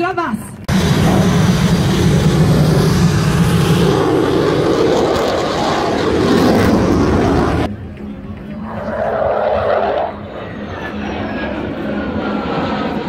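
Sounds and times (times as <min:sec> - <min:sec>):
jet flying past: 0:00.7 - 0:13.0.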